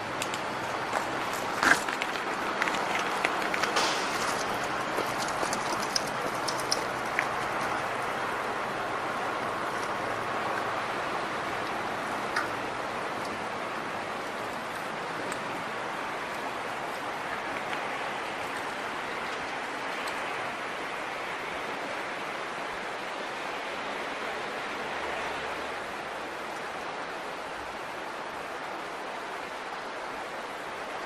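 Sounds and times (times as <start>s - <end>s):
rushing stream water: 0.0s - 31.0s.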